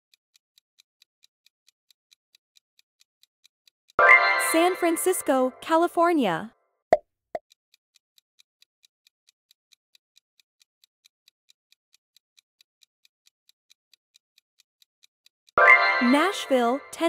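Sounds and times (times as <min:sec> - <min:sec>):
clock-like ticking: 0:00.3 - 0:06.2, 0:07.4 - 0:17.0.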